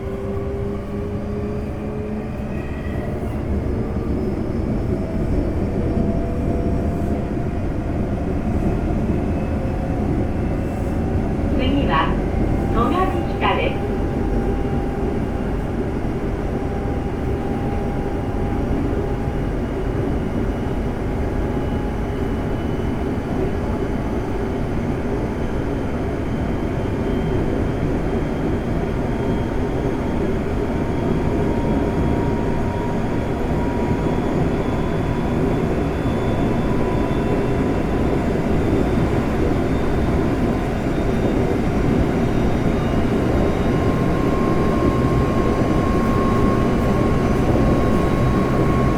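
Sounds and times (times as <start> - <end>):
train wheels rumbling on track: 0.0 - 48.9.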